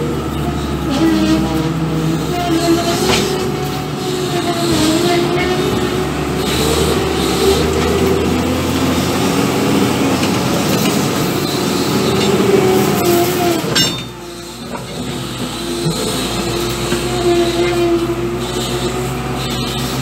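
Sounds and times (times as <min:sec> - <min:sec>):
diesel engine under load: 0:00.0 - 0:20.0.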